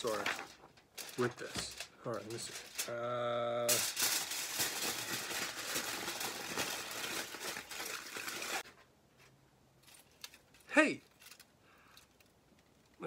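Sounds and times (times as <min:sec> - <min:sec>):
aluminum foil crinkling: 0:00.0 - 0:08.7, 0:09.8 - 0:13.0.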